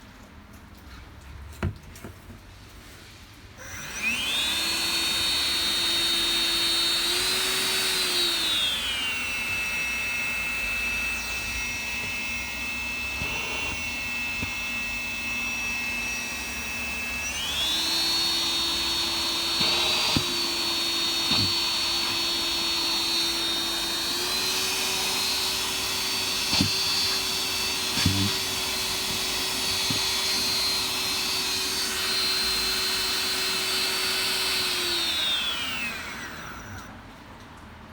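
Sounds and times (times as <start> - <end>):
stick vacuum high whine: 3.6 - 36.9.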